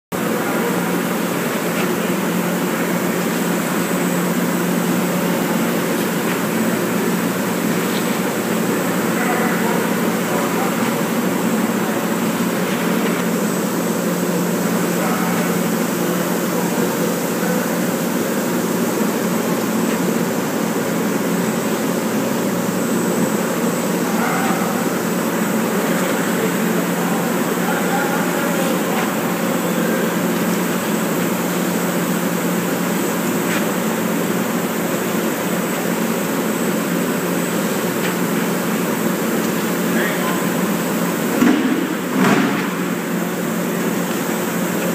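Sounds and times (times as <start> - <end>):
machine hum: 0.1 - 44.9.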